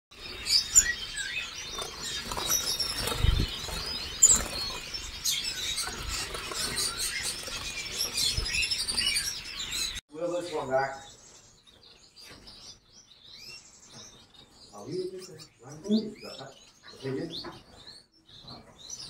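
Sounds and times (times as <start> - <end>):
finches chirping: 0.2 - 19.0.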